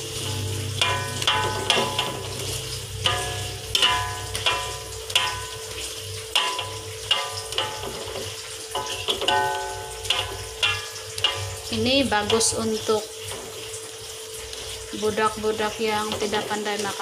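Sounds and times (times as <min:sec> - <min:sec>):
metal spatula scraping wok: 0:00.0 - 0:16.4
omelette sizzling in oil: 0:00.0 - 0:17.0.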